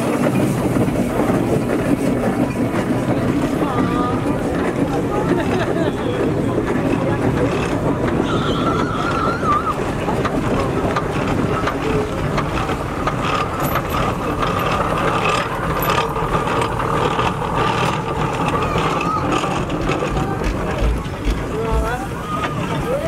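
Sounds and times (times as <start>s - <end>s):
steam traction engine driving: 0.0s - 23.0s.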